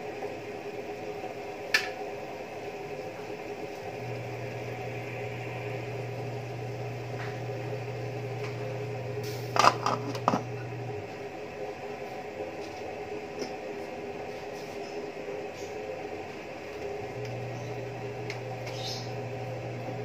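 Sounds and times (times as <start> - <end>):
broth boiling in a pot: 0.0 - 20.0
low hum: 0.0 - 20.0.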